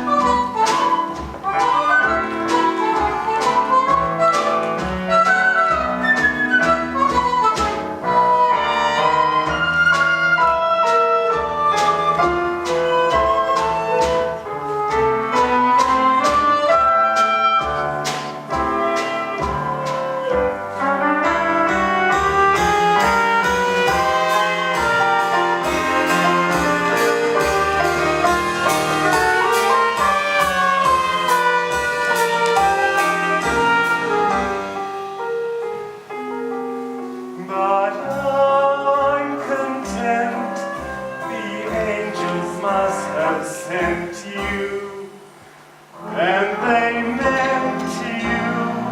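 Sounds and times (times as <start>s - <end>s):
jazzy orchestral music with brass: 0.0s - 48.9s.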